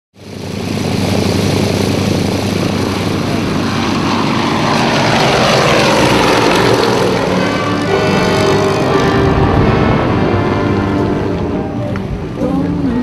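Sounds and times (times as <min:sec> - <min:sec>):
propeller aircraft engine: 0:00.1 - 0:13.0.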